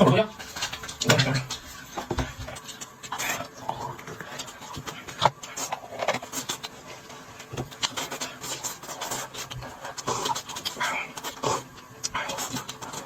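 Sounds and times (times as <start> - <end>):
chewing or slurping: 0.4 - 13.0.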